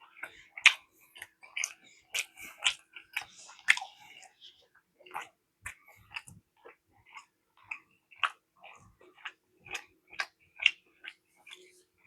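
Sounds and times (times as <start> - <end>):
chewing mouth smacks: 0.1 - 4.4, 5.1 - 11.7.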